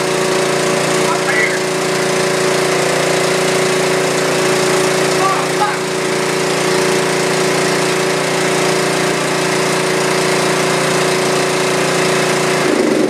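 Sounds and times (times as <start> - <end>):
riding lawn mower engine running: 0.0 - 13.0.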